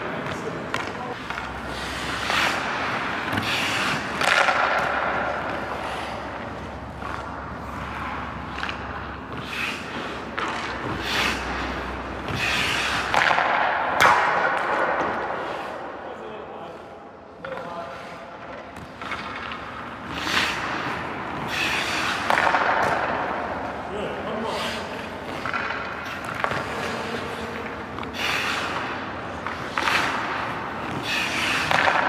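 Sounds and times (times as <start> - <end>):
hockey stick hitting puck: 0.0 - 15.9, 17.3 - 32.0
puck striking boards: 0.0 - 15.9, 18.4 - 23.8, 24.4 - 32.0
skates scraping ice: 0.0 - 32.0.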